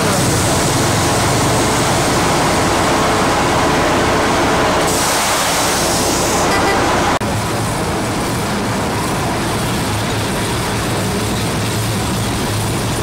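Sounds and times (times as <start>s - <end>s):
train wheels and carriage rumbling: 0.0s - 13.0s.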